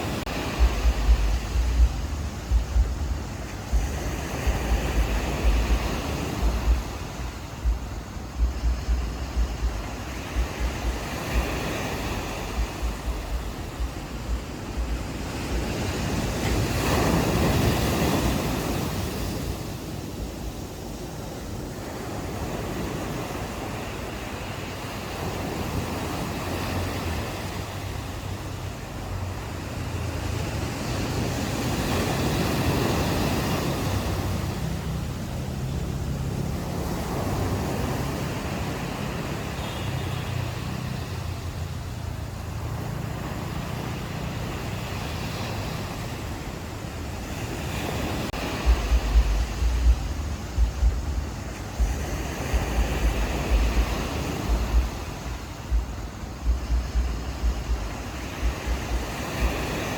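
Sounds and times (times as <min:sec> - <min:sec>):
ocean waves washing onto beach: 0:00.0 - 0:59.9
wind buffeting microphone: 0:00.0 - 0:59.9.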